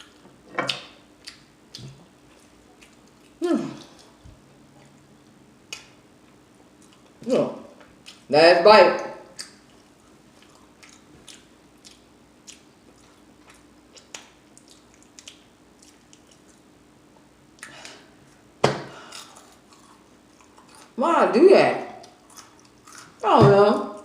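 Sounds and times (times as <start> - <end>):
person chewing food: 0.0 - 8.3, 9.3 - 21.0, 22.0 - 23.2.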